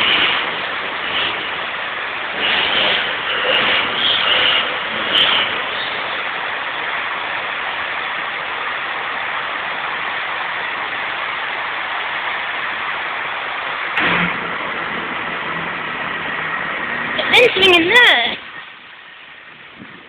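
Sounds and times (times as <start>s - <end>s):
diesel train engines running: 0.0s - 20.0s
low hum: 0.0s - 20.0s.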